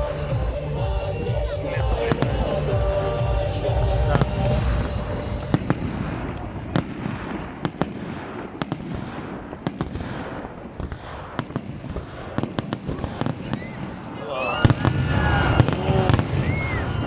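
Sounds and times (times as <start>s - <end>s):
fireworks bursts rumbling: 0.0s - 17.0s.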